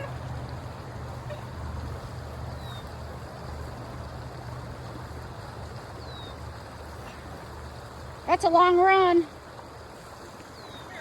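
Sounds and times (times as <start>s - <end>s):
creek water running: 0.0s - 11.0s.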